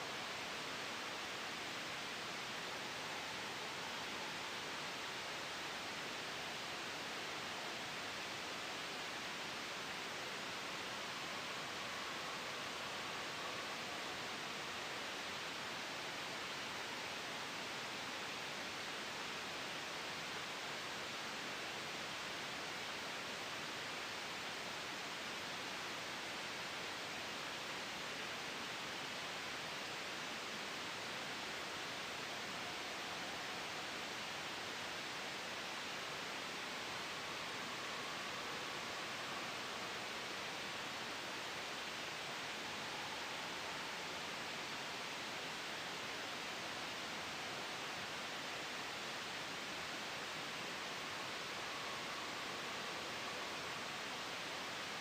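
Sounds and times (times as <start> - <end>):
soft white noise hiss: 0.0 - 55.0.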